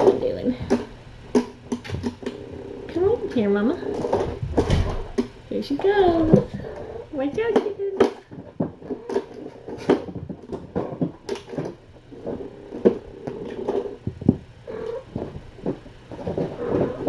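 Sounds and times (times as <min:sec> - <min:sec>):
thumps and knocks of cats playing: 0:00.0 - 0:17.0.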